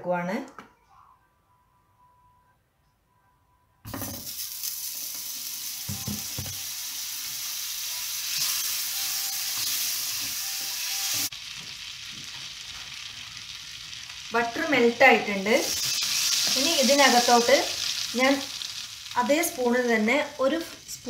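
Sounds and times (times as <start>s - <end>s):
butter sizzling in a frying pan: 4.0s - 21.0s.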